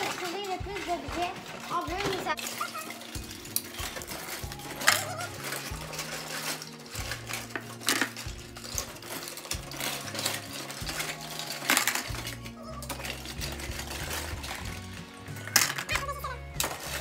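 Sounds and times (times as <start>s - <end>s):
music playing: 0.0s - 17.0s
plastic toy pieces clattering: 0.0s - 17.0s.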